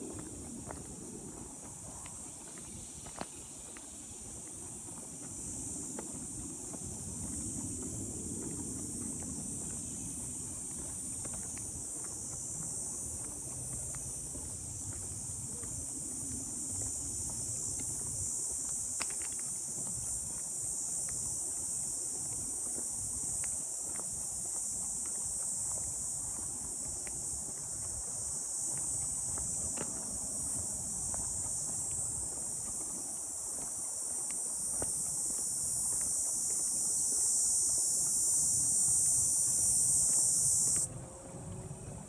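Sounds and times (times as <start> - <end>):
high-pitched insect chorus: 0.0 - 41.9
footsteps on gravel trail: 0.0 - 42.0.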